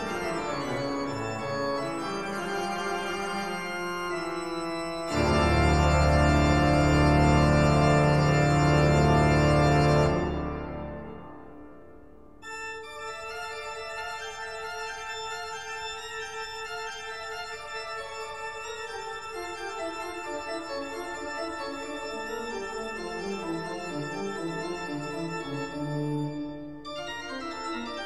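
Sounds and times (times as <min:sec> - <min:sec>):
organ-like keyboard chords: 0:00.0 - 0:28.0.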